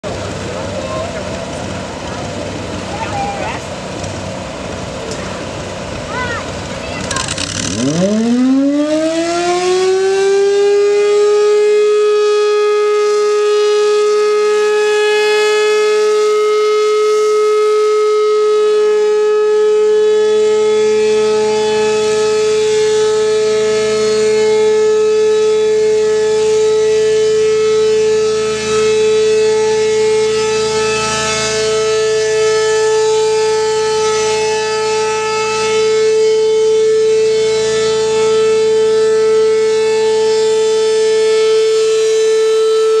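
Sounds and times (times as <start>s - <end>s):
mobile siren wailing: 7.6s - 43.0s.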